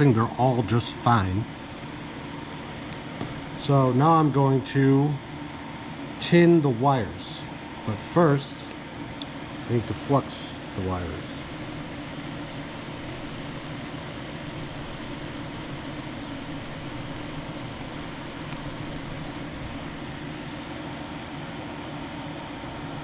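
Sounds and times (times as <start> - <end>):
mechanical drone with hum: 0.0 - 23.0.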